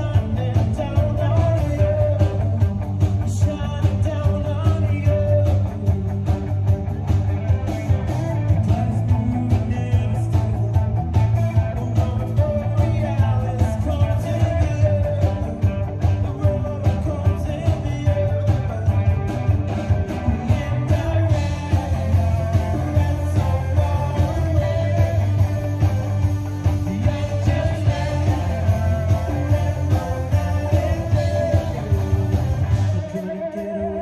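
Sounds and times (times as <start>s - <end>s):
lead vocal singing: 0.0s - 6.3s, 7.4s - 34.0s
live rock band: 0.0s - 34.0s.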